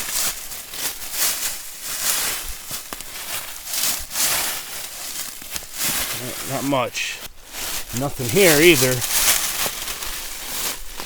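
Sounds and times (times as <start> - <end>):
dry leaves rustling: 0.0 - 11.0.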